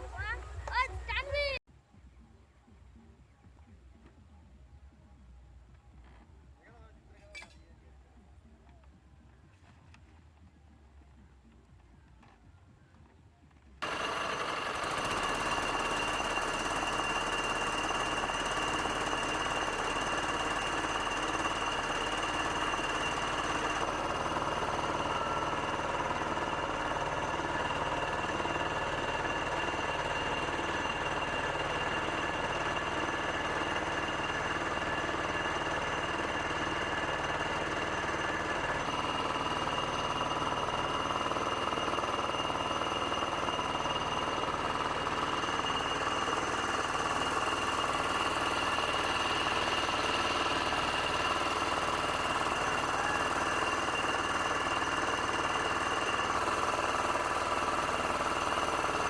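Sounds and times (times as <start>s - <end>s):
boat engine running: 0.0s - 1.6s, 9.3s - 59.0s.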